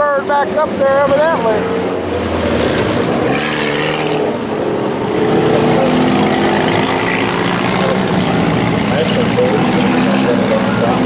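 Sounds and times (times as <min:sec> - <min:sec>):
race car engines droning: 0:00.0 - 0:11.0
engine revving: 0:00.2 - 0:11.0.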